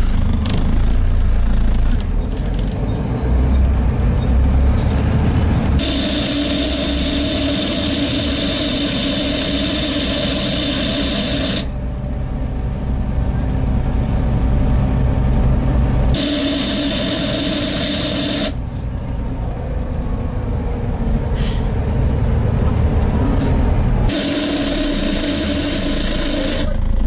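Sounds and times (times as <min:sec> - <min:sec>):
low bus engine rumble: 0:00.0 - 0:27.0.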